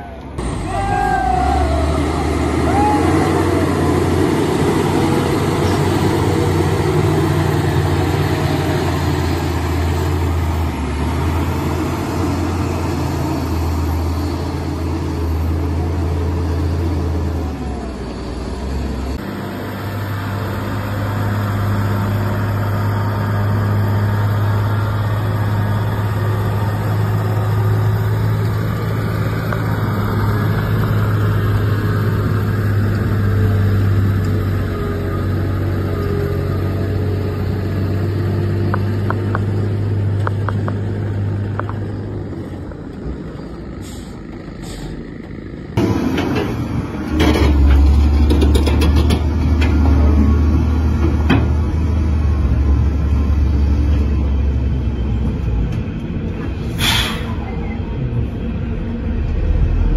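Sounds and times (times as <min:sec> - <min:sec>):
heavy diesel truck engine droning: 0:00.0 - 0:59.9.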